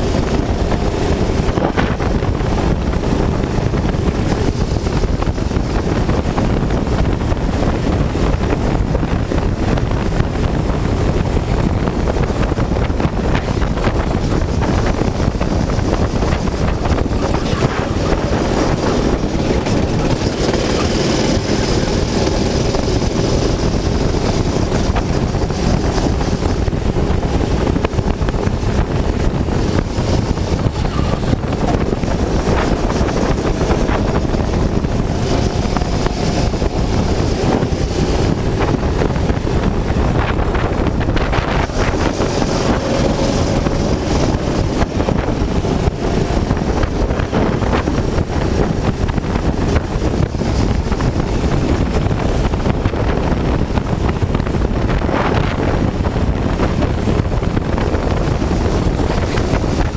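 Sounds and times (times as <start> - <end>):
go-kart engine running hard: 0.0 - 59.9
wind rushing over microphone: 0.0 - 59.9.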